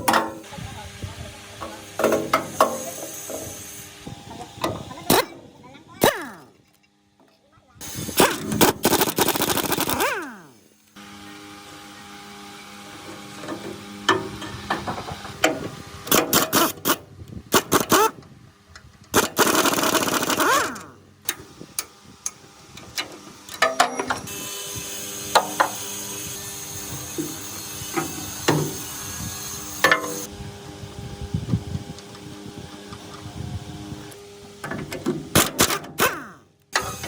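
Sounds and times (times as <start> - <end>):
machine hum with high whine: 0.0 - 37.0.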